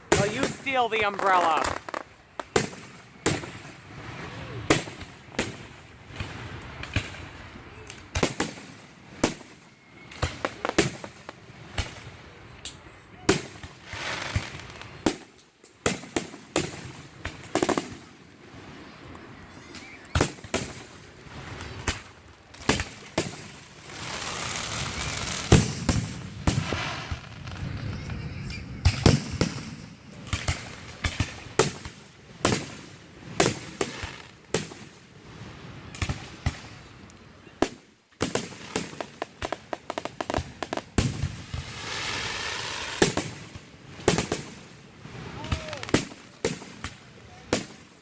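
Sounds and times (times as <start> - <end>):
fireworks hiss: 0.0 - 12.1, 12.7 - 36.9, 37.7 - 47.9
fireworks bangs: 0.0 - 36.9, 37.6 - 48.0.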